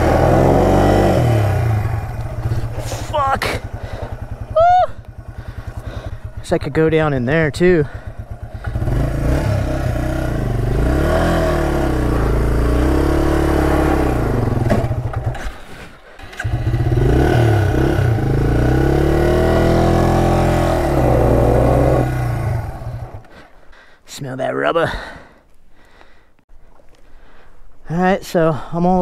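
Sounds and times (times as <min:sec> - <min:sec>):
motorcycle engine revving: 0:00.0 - 0:23.3.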